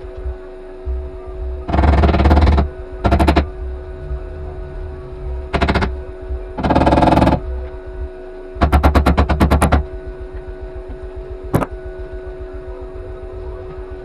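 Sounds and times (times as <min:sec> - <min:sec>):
welder hum: 0:00.0 - 0:14.0.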